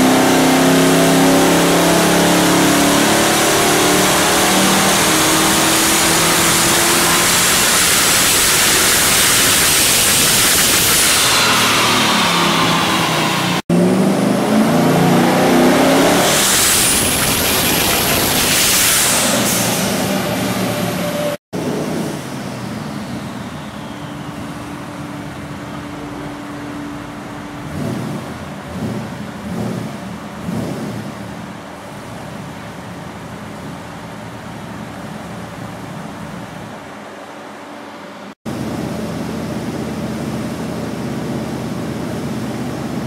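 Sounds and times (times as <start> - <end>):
car engine revving on dyno: 0.0 - 36.6.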